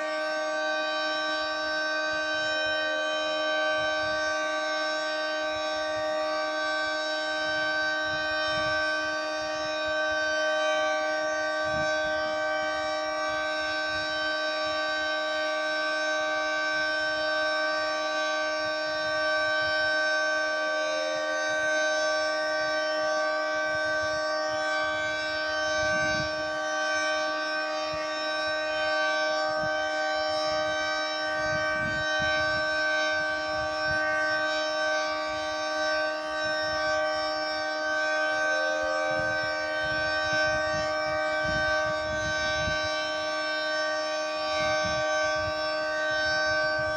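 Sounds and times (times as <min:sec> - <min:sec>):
three-tone warning siren: 0:00.0 - 0:46.9.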